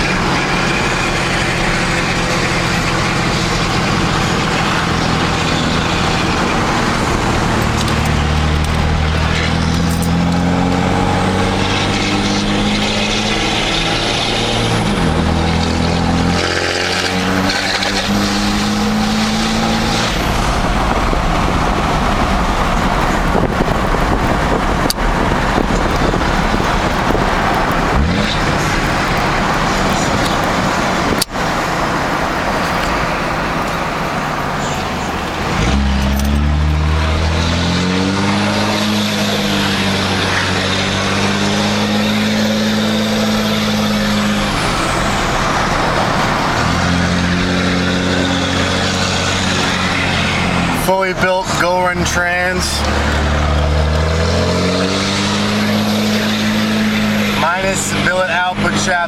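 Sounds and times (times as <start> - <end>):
diesel pickup engine: 0.0 - 59.0
rushing road noise: 0.0 - 59.0.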